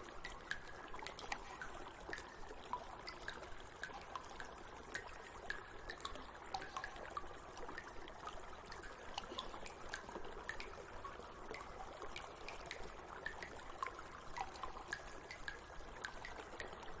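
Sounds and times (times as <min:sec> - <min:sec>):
shallow water trickling: 0:00.0 - 0:17.0
water drips and plinks: 0:00.0 - 0:17.0.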